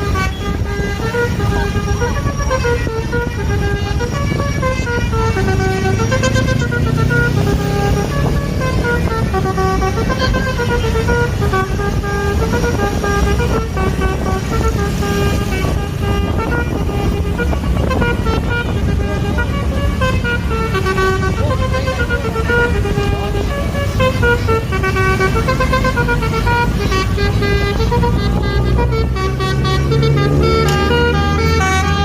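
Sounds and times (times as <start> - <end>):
musical air horn tune: 0.0 - 32.0.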